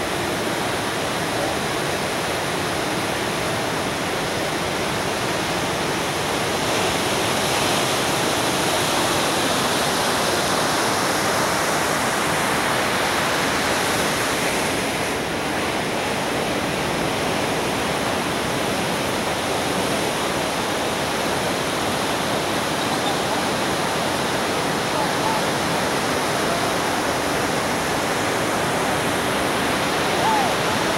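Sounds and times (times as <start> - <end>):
surf breaking on beach: 0.0 - 30.9.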